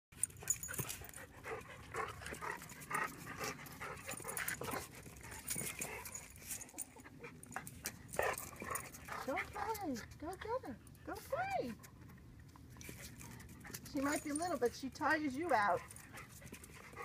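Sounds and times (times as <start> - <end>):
dogs panting: 0.2 - 17.0.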